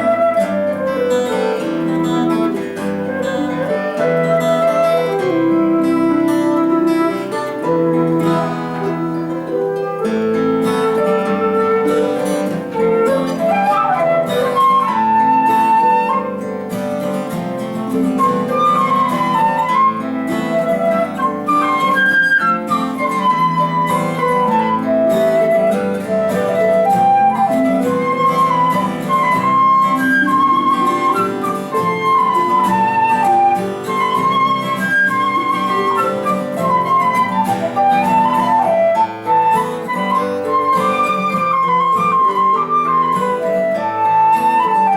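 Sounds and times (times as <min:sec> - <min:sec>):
flute melody: 0:00.0 - 0:44.9.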